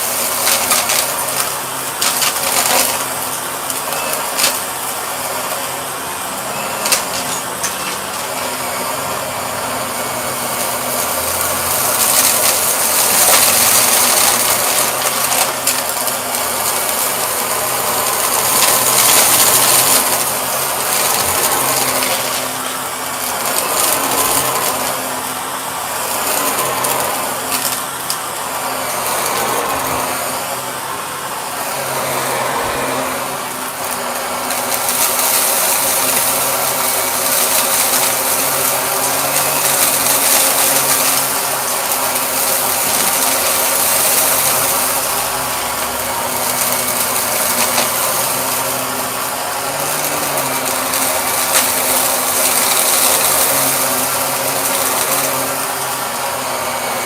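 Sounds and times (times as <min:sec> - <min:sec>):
debris rattling through vacuum: 0:00.0 - 0:57.0
vacuum cleaner running: 0:00.0 - 0:57.0.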